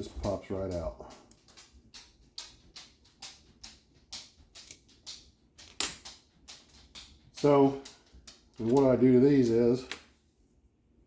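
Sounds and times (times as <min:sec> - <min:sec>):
faint clicks and taps: 0:00.0 - 0:10.2.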